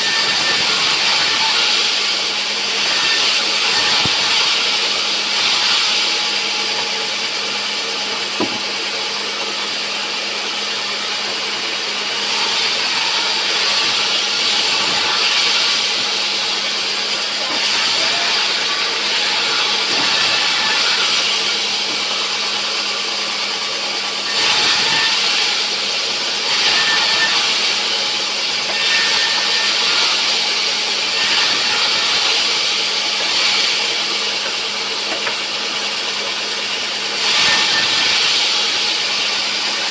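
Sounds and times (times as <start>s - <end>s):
saw blade rasping through wood: 0.0s - 39.9s
saw motor hum: 0.0s - 39.9s.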